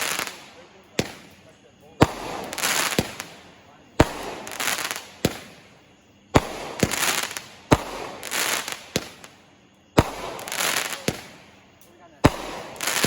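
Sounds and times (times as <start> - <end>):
crackling hiss of fireworks: 0.0 - 13.0
firework bangs: 0.0 - 13.0.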